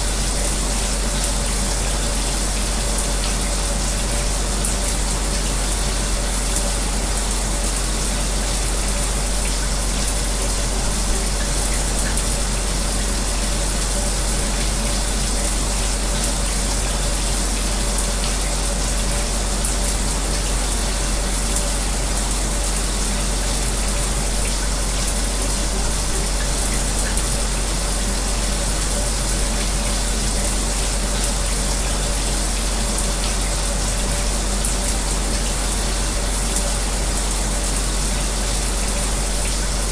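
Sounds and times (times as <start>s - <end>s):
electric fan: 0.0s - 39.9s
faint steady hum: 0.0s - 39.9s
shower running: 0.0s - 39.9s.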